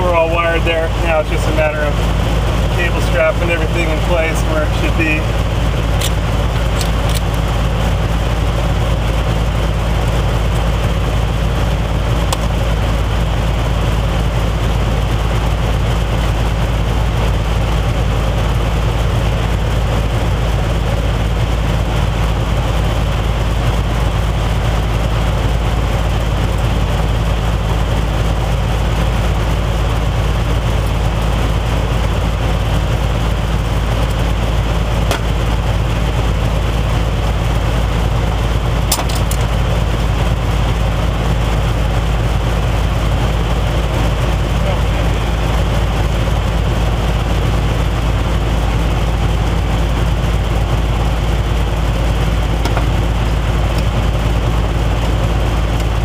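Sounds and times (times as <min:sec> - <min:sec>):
machine hum: 0:00.0 - 0:56.0.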